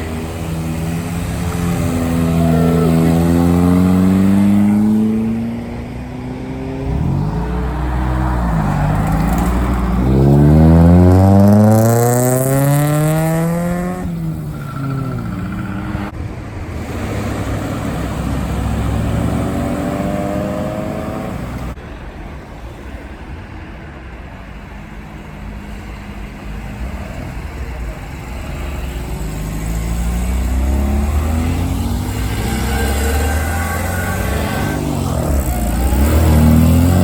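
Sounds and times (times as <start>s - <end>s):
car engine accelerating hard: 0.0s - 21.8s, 25.2s - 37.0s
quieter car accelerating: 0.0s - 21.8s, 24.5s - 37.0s
cars driving past: 0.0s - 37.0s.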